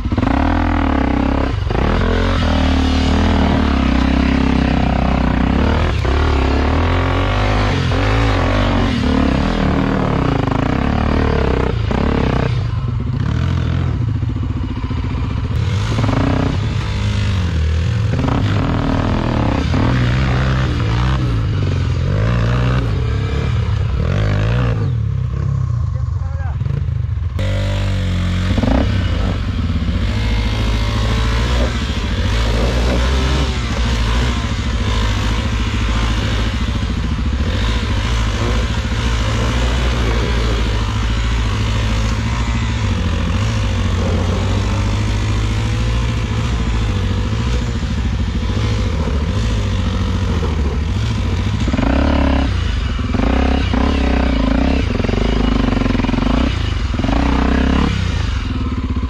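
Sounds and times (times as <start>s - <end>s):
dirt bike engine revving: 0.0s - 59.0s
second dirt bike engine: 0.0s - 59.0s.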